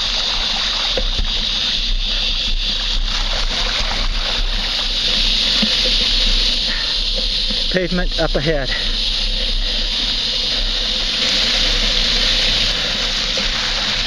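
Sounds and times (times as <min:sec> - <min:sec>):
bike tyres splashing through water: 0:00.0 - 0:14.0.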